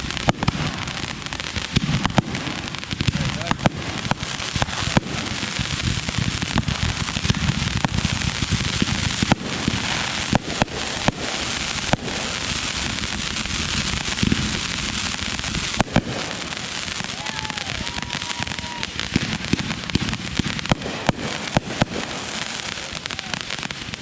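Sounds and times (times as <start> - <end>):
fireworks bangs: 0.0 - 24.0
fireworks crackling: 0.0 - 24.0.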